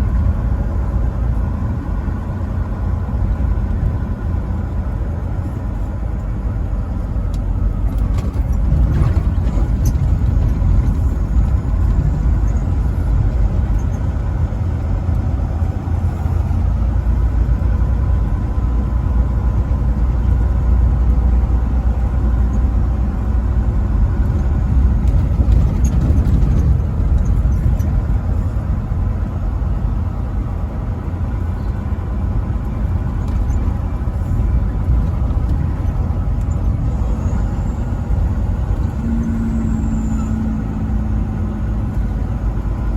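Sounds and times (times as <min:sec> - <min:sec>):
road noise: 0:00.0 - 0:42.9
truck engine rumble: 0:00.0 - 0:42.9.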